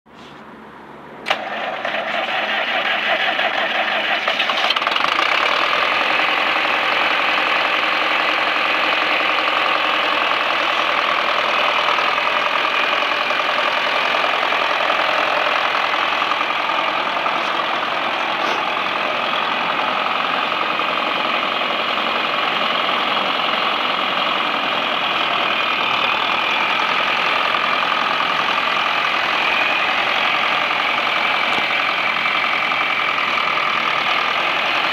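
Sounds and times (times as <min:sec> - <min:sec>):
diesel engine cranking and running: 0:00.1 - 0:34.9.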